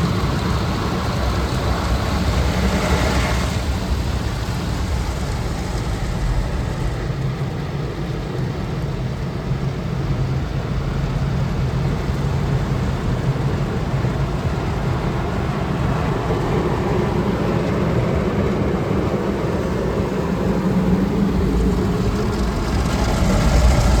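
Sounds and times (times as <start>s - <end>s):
car wash machinery rumbling: 0.0s - 24.0s.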